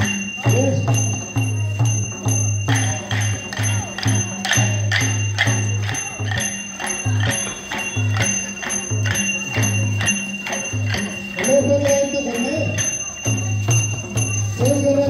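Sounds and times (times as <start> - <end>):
hand drum beat: 0.0 - 15.0
small cymbals ringing: 0.0 - 15.0.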